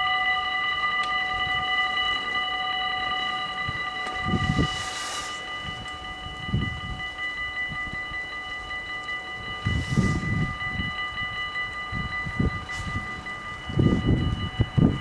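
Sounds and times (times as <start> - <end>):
level-crossing warning bells: 0.0 - 15.0.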